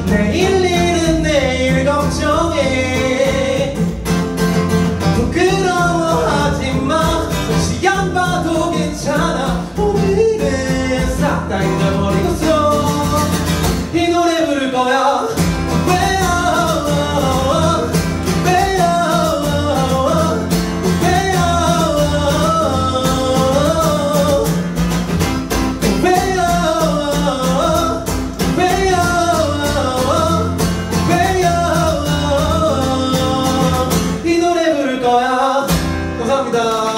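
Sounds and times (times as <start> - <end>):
man singing: 0.0 - 36.9
strummed acoustic guitar: 0.0 - 36.9.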